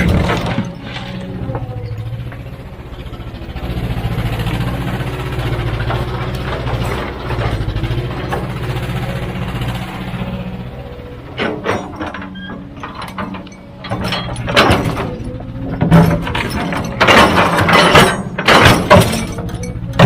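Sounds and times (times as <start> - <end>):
metallic clanks and knocks: 0.0 - 3.7, 4.5 - 9.2, 10.8 - 20.0
diesel engine running: 0.0 - 20.0.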